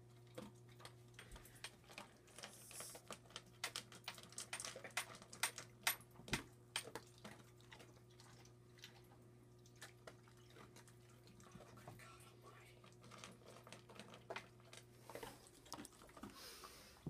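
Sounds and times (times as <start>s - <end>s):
animals crunching dry kibble: 0.1s - 6.0s, 6.9s - 16.6s.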